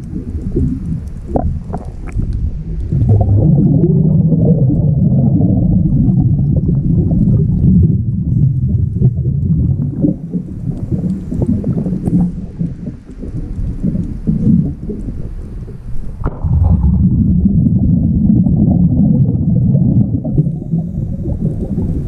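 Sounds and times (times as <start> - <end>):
underwater bubbling and rushing water: 0.0 - 22.0.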